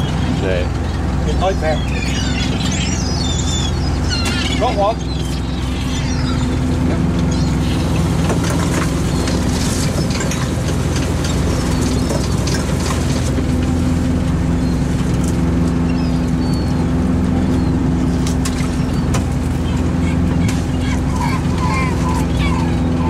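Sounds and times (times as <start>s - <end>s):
boat engine and net hauler hum: 0.0s - 23.0s
gulls calling: 0.0s - 23.0s.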